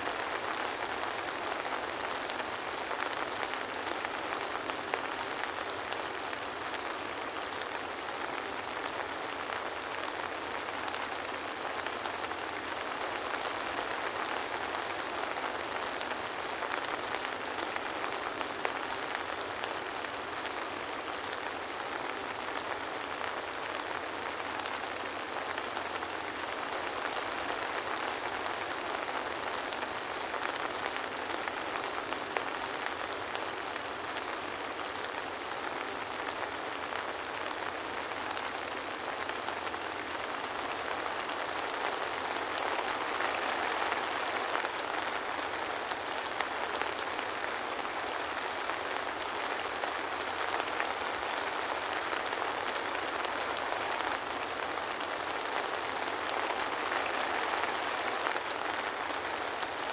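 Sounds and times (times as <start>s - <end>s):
soft rain falling: 0.0s - 59.9s.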